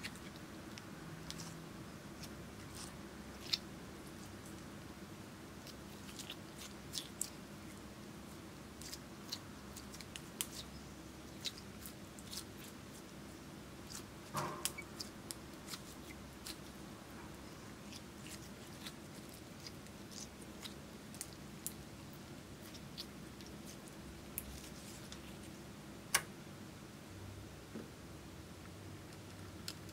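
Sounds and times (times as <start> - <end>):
slime squelch: 0.0 - 26.2
faint steady hum: 0.0 - 29.9.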